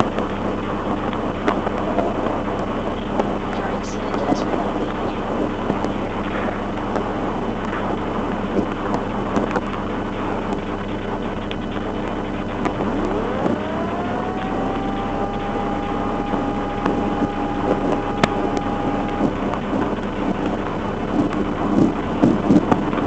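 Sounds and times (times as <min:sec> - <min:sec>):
rising whine: 0:00.0 - 0:23.0
steady low hum: 0:00.0 - 0:23.0.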